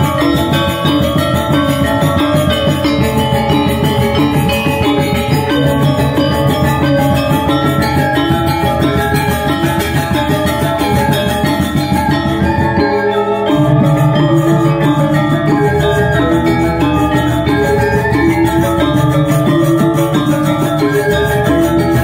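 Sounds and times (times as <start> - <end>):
gamelan metallophones playing: 0.0 - 22.0.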